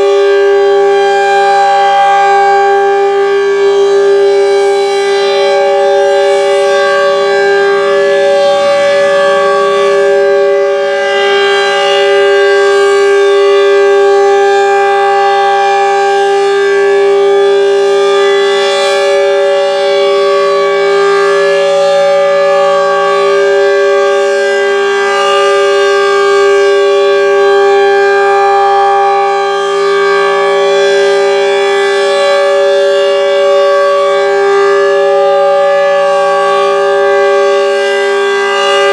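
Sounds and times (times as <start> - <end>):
tornado siren steady tone: 0.0 - 38.9.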